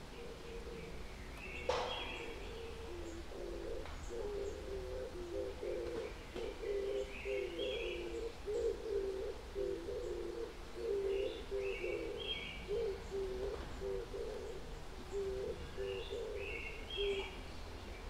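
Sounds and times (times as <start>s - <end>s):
low bird notes: 0.0s - 17.4s
bird chirping: 0.0s - 18.0s.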